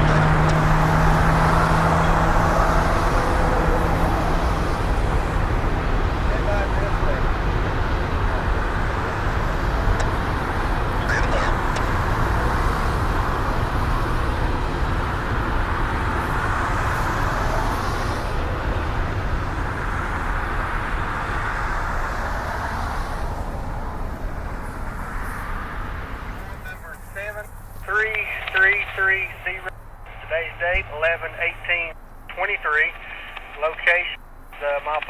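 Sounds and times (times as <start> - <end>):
low vehicle rumble: 0.0 - 34.6.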